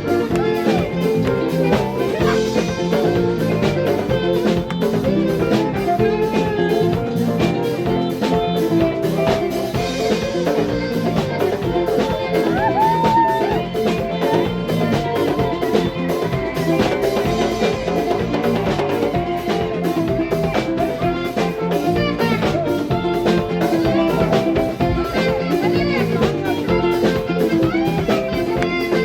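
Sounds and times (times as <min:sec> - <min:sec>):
band music with drums and guitar: 0:00.0 - 0:29.0.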